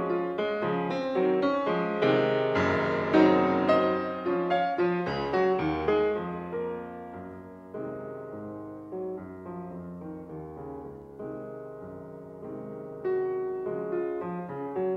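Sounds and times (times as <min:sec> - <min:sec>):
slow piano melody: 0:00.0 - 0:14.9.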